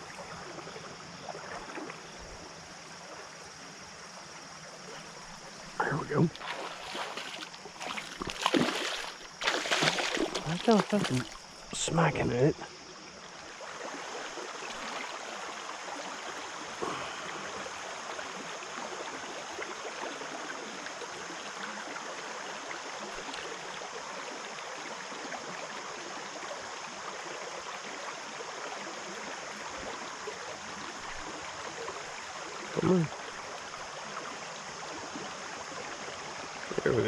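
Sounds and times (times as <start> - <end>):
creek water running over rocks: 0.0 - 37.0.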